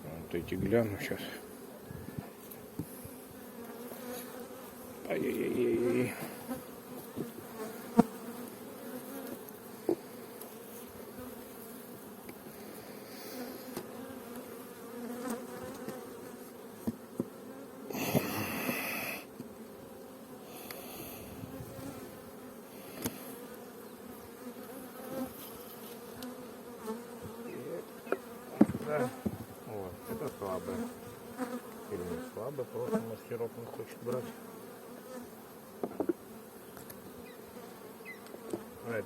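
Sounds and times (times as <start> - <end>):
bees humming: 0.2 - 39.0.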